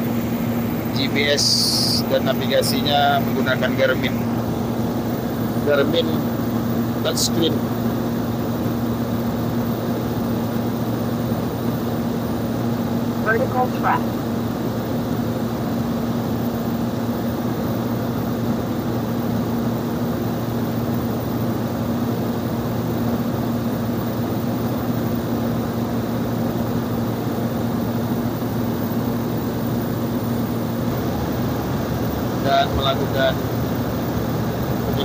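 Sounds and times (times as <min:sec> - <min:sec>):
propeller airplane engine drone: 0:00.0 - 0:35.0.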